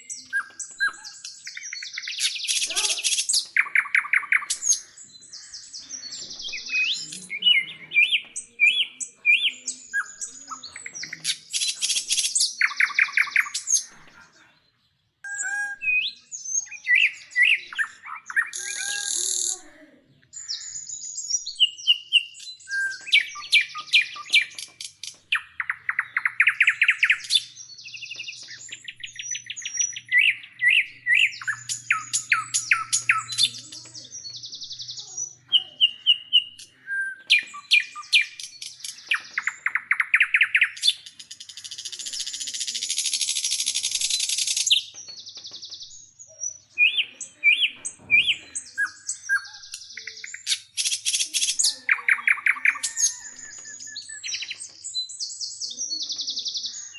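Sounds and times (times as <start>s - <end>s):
songbird singing chirps and trills: 0.0s - 56.9s.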